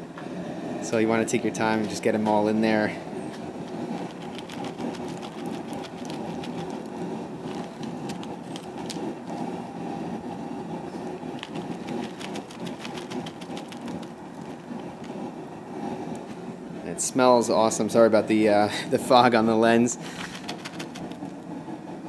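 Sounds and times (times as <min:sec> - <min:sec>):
propane burner running: 0:00.0 - 0:22.0
boiling liquid crackling: 0:00.6 - 0:22.0.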